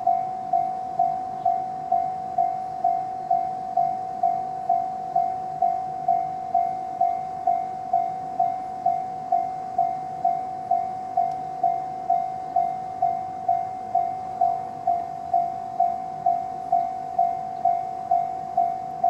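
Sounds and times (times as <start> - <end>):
level crossing electronic bell: 0.0 - 19.0.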